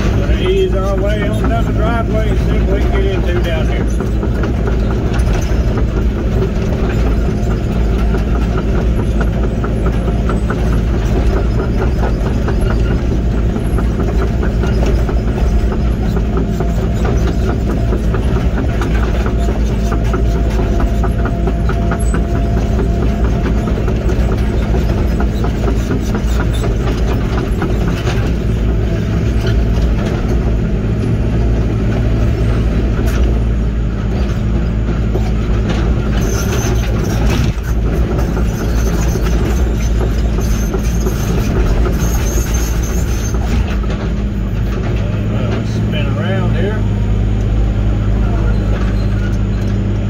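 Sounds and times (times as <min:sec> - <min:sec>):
excavator diesel engine running: 0:00.0 - 0:50.0
undercarriage clanks and rattles: 0:00.0 - 0:50.0.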